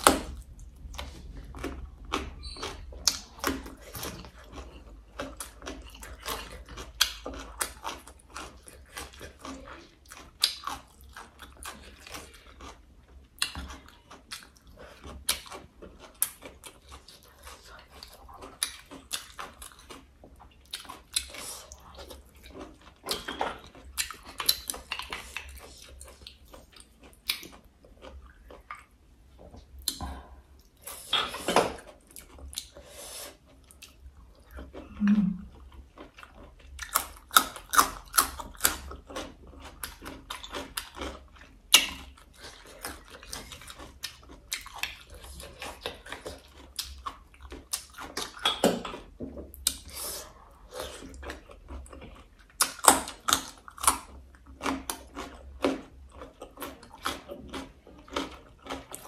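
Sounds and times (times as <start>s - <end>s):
chewing and biting: 0.0s - 29.0s, 29.6s - 59.0s.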